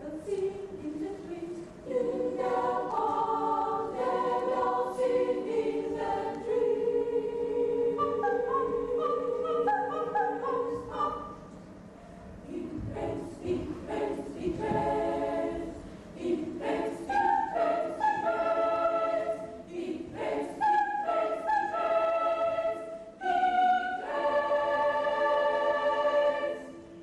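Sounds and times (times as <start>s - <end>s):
children's choir singing: 0.0s - 11.5s, 12.4s - 27.0s.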